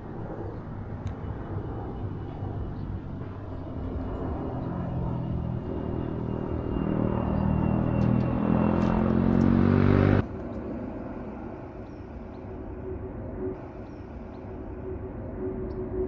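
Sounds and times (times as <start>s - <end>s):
aircraft engine drone: 0.0s - 16.0s
outdoor ambience: 0.0s - 16.0s.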